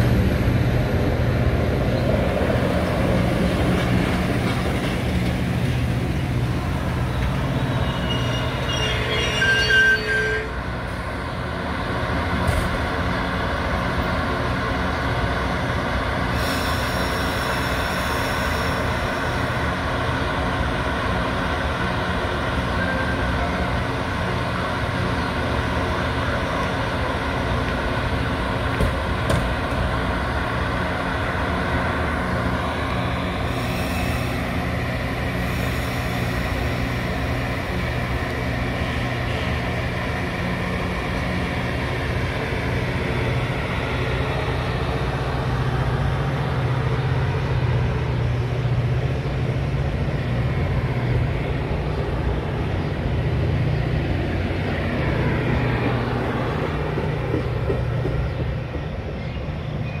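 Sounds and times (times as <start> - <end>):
diesel locomotive engine droning: 0.0 - 60.0.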